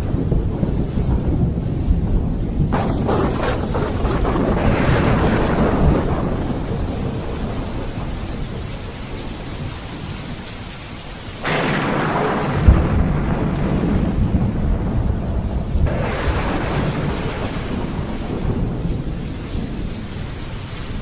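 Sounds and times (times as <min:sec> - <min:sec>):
sharp thunderclap crack: 0:00.0 - 0:10.0, 0:11.4 - 0:21.0
steady rain: 0:00.0 - 0:21.0
thunder rumbling: 0:00.0 - 0:21.0.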